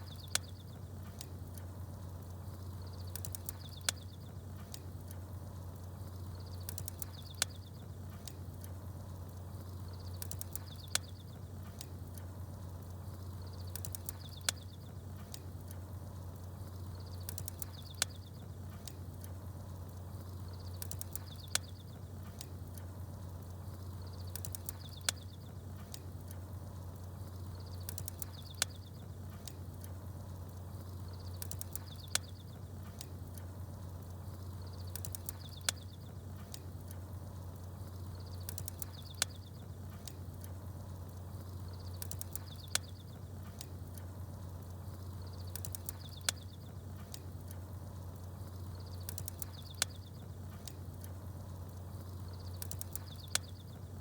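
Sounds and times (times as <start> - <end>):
campfire crackling: 0.0 - 54.0
low fire rumble: 0.0 - 54.0
small birds chirping: 0.0 - 54.0.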